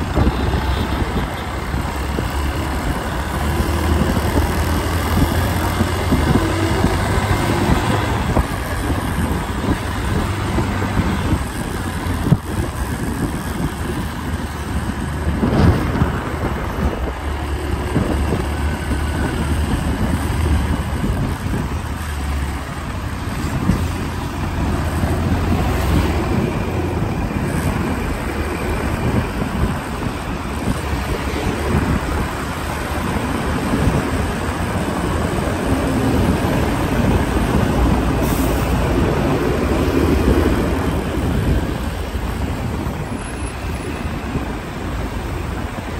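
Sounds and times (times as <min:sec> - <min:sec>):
engine and tyre rumble: 0:00.0 - 0:45.9.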